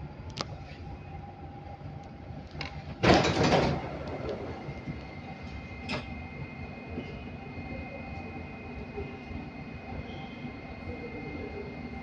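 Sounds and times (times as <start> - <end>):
train cabin hum: 0.0 - 12.0.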